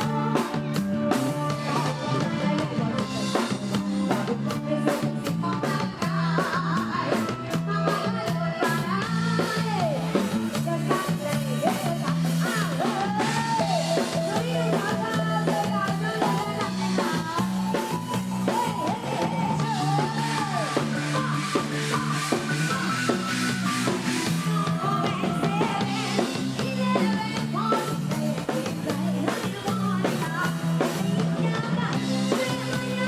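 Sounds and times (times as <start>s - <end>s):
bass line: 0.0s - 33.0s
drum kit beat: 0.0s - 33.0s
sliding lead melody: 0.0s - 33.0s.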